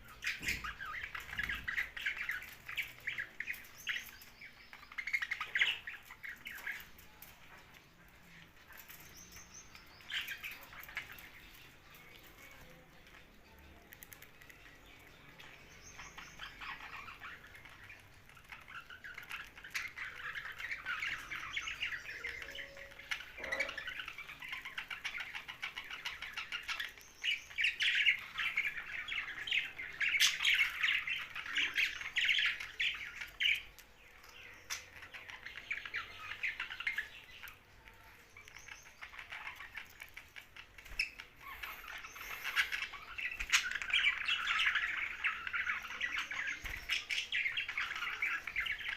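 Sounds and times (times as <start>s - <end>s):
budgerigars chirping and squawking: 0.0s - 48.9s.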